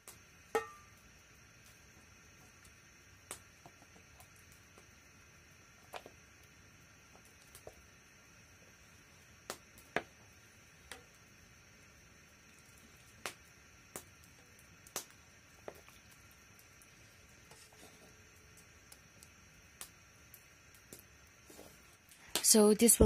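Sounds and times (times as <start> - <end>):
faint high hum: 0.0 - 23.0.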